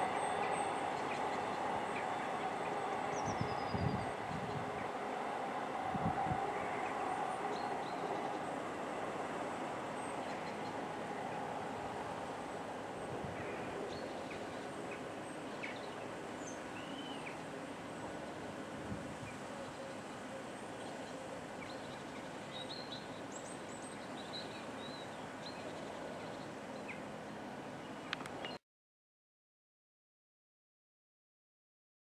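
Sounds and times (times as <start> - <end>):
freight train rumble: 0.0 - 28.4.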